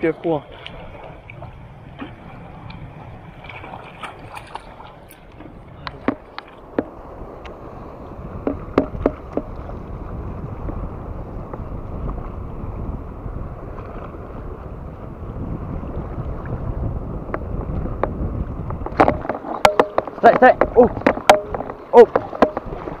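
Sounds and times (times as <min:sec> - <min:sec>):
sea water washing around rocks: 0:00.0 - 0:23.0
wind buffeting microphone: 0:00.0 - 0:23.0.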